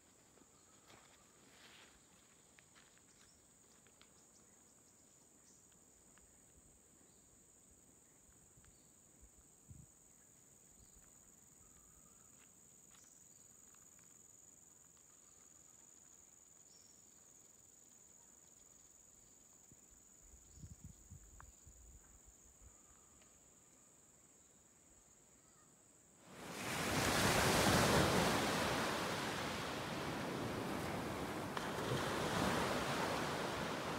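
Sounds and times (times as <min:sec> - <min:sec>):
insects droning: 0:00.0 - 0:33.9.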